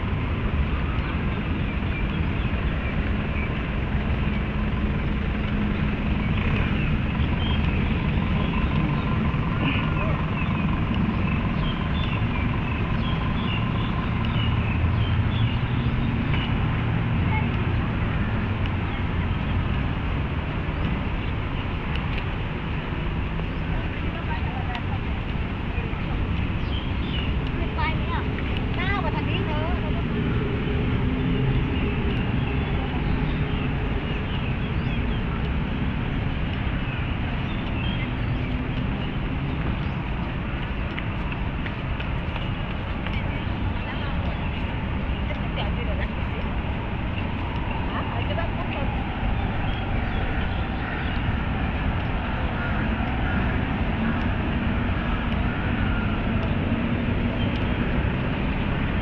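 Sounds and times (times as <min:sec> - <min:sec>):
birds chirping: 0:00.0 - 0:59.0
city traffic rumble: 0:00.0 - 0:59.0.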